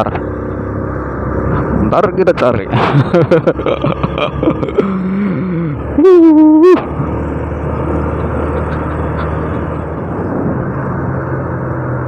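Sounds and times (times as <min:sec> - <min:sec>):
motorcycle engine running: 0:00.0 - 0:10.0
road and wind noise: 0:00.0 - 0:12.0.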